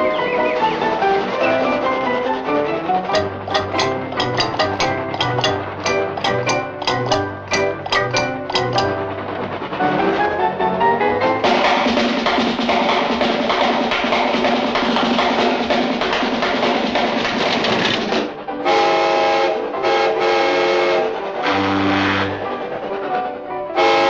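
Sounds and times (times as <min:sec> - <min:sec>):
cartoon train chugging: 0:00.0 - 0:24.0
music: 0:00.0 - 0:24.0.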